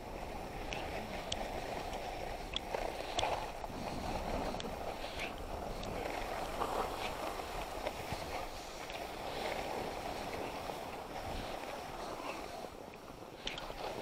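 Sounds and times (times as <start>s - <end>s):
skis sliding over snow: 0.0s - 14.0s.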